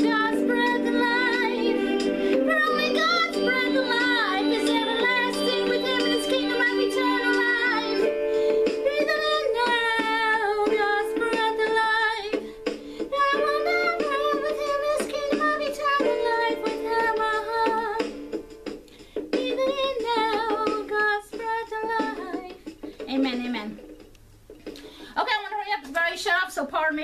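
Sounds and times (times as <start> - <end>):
instrumental accompaniment: 0.0 - 25.6.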